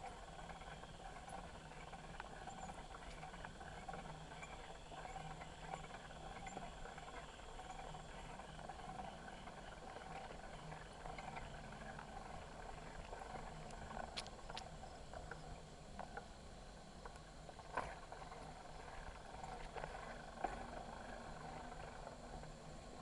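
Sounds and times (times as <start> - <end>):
bicycle rolling: 0.0 - 23.0.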